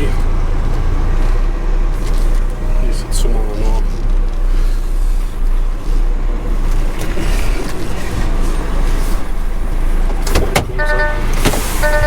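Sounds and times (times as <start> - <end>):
diesel lorry engine rumbling: 0.0 - 12.0.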